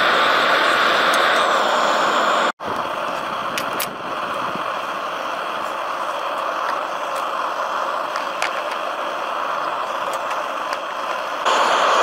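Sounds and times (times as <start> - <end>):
blower fan rushing air: 0.0 - 12.0.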